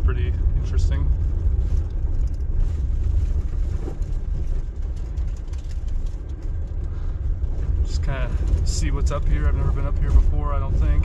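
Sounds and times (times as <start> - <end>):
vehicle engine and tyres rumbling: 0.0 - 11.0
light rattles: 0.2 - 11.0.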